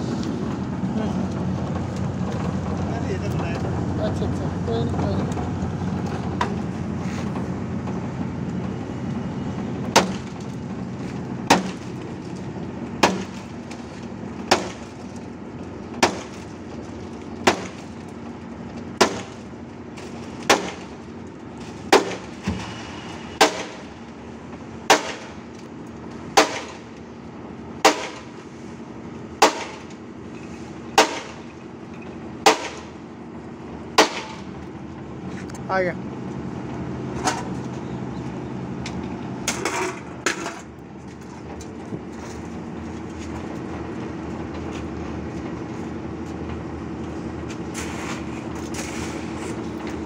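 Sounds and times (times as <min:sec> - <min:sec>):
hoist engine running: 0:00.0 - 0:50.0.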